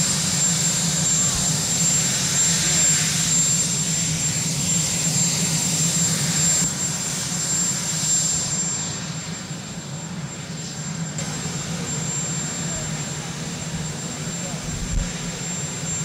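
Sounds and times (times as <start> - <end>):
helicopter turbine whine and roar: 0.0 - 16.0.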